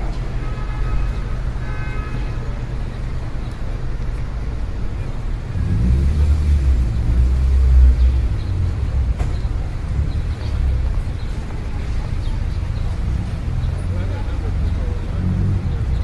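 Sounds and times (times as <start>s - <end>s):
heavy vehicle engine rumble: 0.0s - 16.0s
passing cars rumble: 0.0s - 16.0s.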